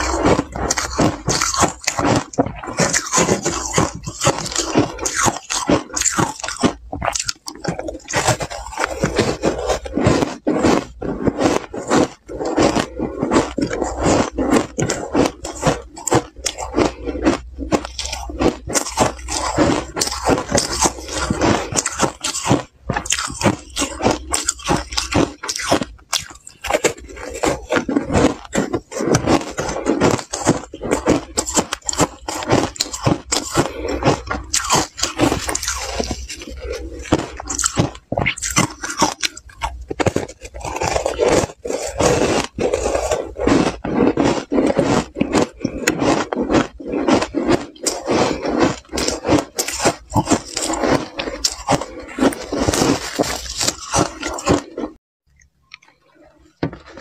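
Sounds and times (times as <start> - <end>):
crunching and chewing ice: 0.0 - 57.0.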